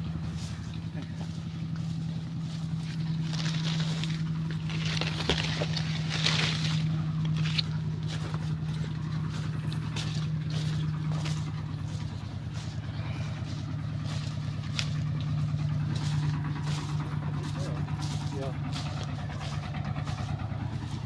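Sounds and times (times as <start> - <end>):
engine running steadily: 0.0 - 21.0
leaves and branches rustling: 0.0 - 21.0.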